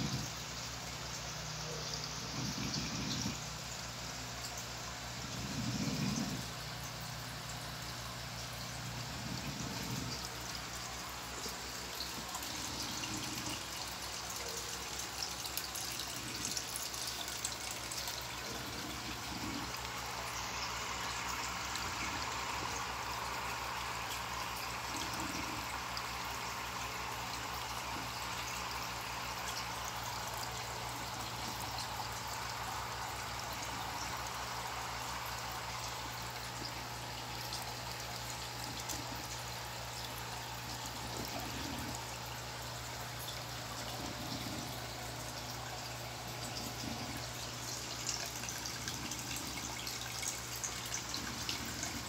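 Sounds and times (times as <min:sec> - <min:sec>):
aquarium water trickling: 0:00.0 - 0:52.0
low steady hum: 0:00.0 - 0:52.0.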